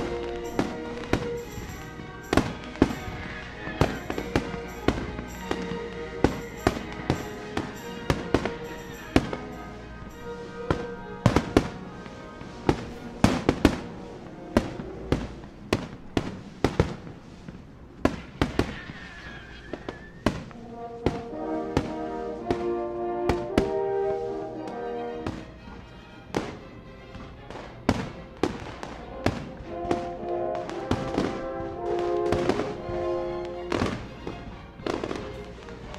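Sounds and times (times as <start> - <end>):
music with held notes: 0.0 - 17.9, 19.8 - 35.9
fireworks bangs and cracks: 0.0 - 35.9.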